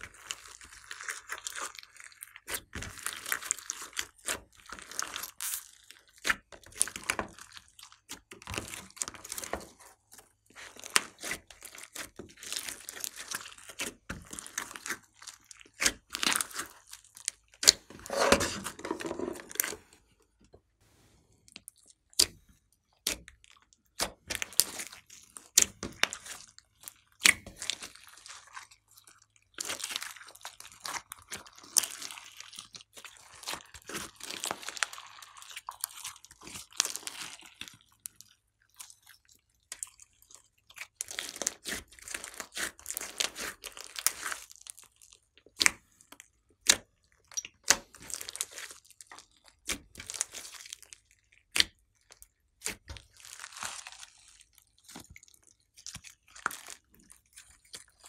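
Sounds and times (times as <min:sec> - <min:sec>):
slime squelching: 0:00.0 - 0:58.0.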